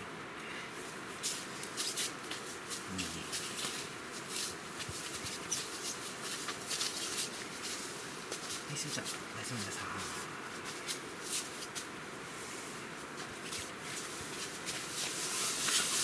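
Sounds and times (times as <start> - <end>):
dogs rustling on nylon groundsheet: 0.9 - 16.0.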